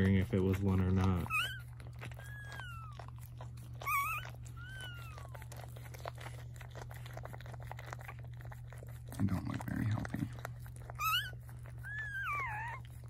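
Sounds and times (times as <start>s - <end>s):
dog licking: 0.0s - 13.0s
puppies squealing: 0.3s - 9.0s, 10.3s - 13.0s.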